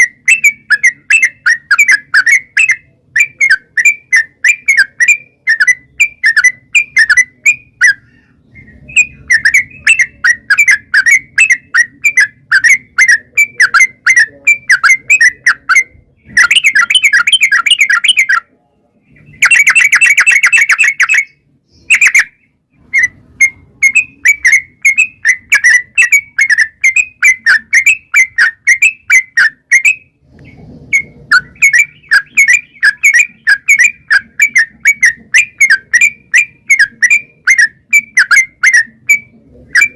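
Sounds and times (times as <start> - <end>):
bird rapid-fire trill: 0.0 - 18.5, 19.2 - 30.2, 30.9 - 39.9
bird chirping: 0.0 - 39.9.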